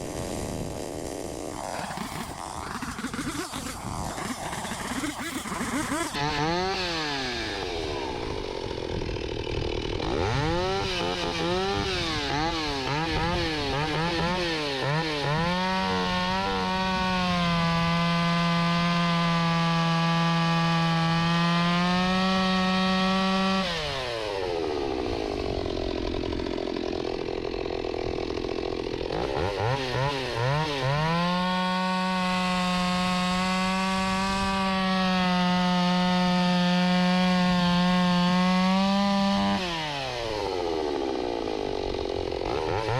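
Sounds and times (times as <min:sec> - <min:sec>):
chainsaw revving: 0:00.0 - 0:42.9.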